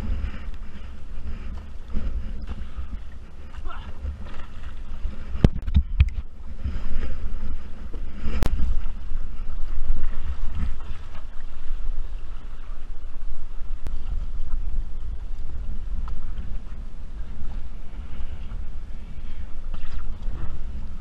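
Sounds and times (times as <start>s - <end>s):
water splashing and sloshing: 0.0s - 21.0s
wind buffeting microphone: 0.0s - 21.0s.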